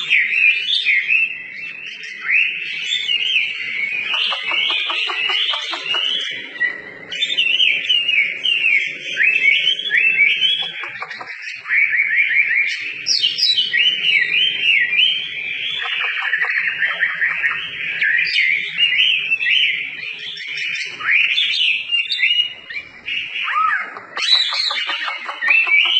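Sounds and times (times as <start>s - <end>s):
bird singing whistled phrases: 0.0s - 25.9s.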